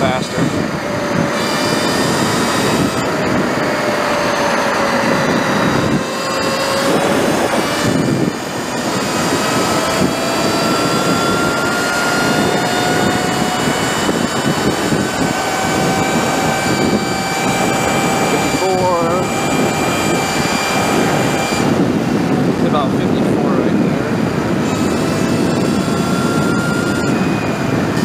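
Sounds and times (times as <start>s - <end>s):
electric motorbike motor whining: 0.0s - 28.0s
wind on microphone: 0.0s - 28.0s.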